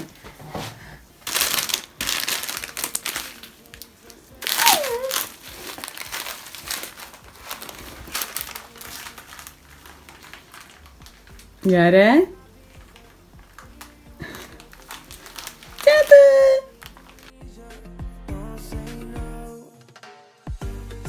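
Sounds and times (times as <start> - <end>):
crinkling and rustling: 0.0 - 17.3.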